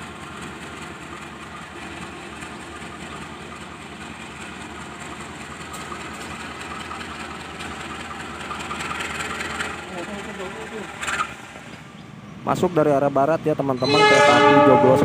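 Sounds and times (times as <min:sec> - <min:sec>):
distant locomotive engine: 0:00.0 - 0:15.0.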